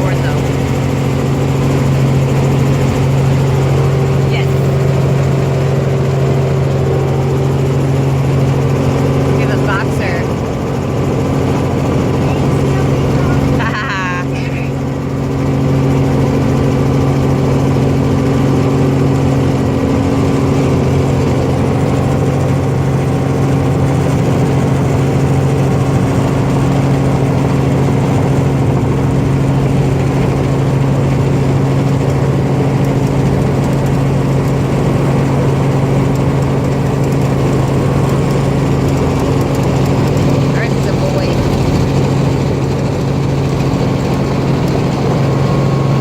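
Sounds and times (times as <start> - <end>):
helicopter drone: 0.0 - 46.0.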